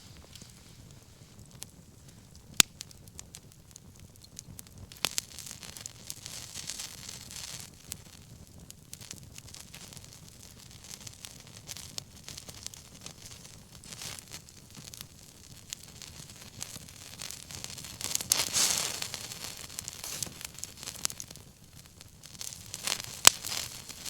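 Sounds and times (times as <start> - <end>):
bonfire crackling: 0.0 - 24.0
fire hissing: 0.0 - 24.0
fire popping: 0.0 - 24.0.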